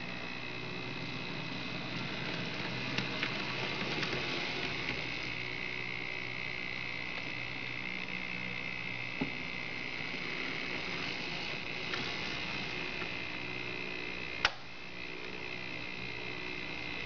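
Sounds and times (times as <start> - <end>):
model locomotive motor whine: 0.0 - 17.0.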